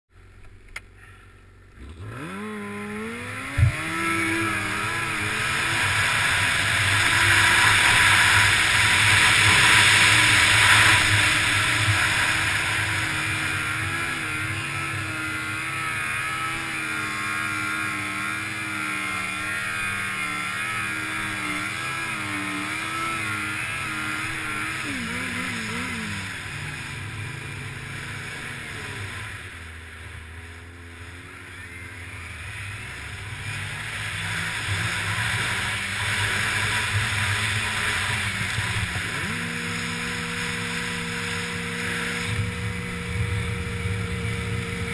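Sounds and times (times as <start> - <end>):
snowmobile engine running: 0.2 - 44.9.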